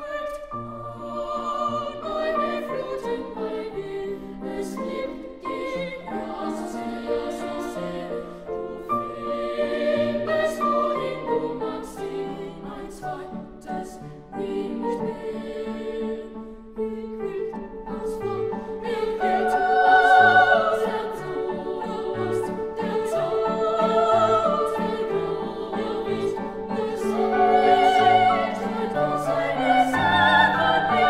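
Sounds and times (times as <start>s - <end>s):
classical background music: 0.0s - 31.0s.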